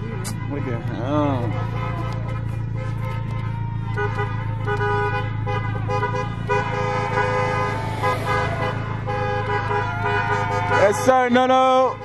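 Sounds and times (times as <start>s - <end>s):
car horns honking: 0.0s - 12.0s.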